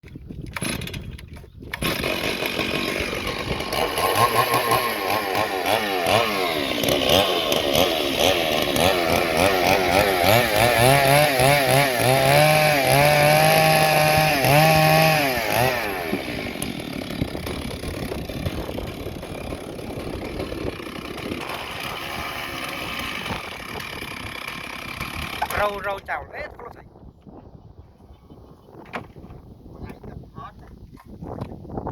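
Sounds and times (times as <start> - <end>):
chainsaw cutting wood: 0.4 - 26.0.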